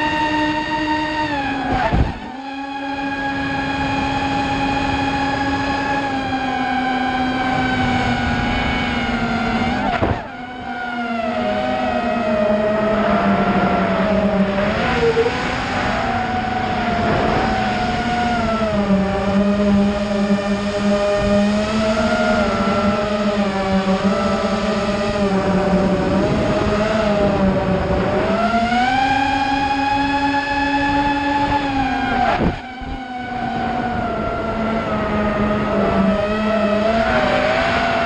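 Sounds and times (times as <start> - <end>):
drone motors and propellers whining: 0.0 - 38.0.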